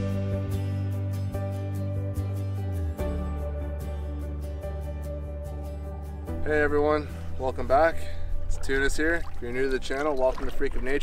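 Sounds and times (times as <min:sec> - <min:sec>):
background music with chords: 0:00.0 - 0:11.0.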